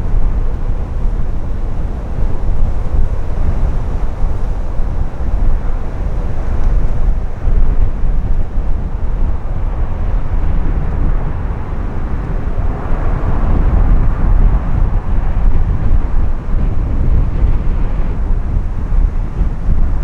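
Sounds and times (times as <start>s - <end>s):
jet airliner engines rumbling: 0.0s - 20.0s
wind buffeting microphone: 0.0s - 20.0s.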